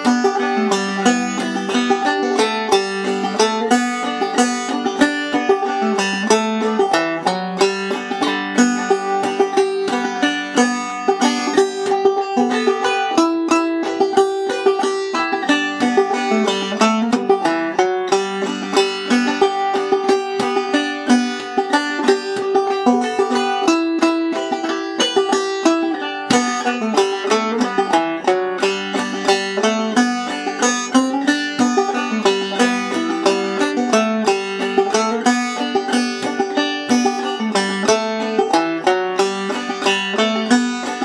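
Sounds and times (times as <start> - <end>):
banjo plucking: 0.0 - 41.0.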